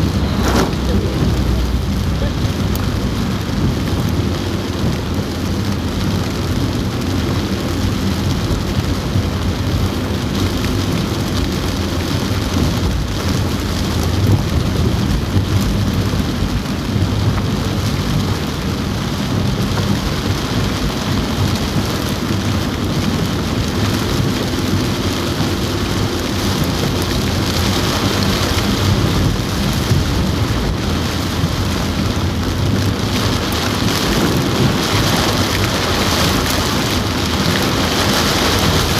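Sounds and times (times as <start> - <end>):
heavy rain on car roof: 0.0 - 38.9.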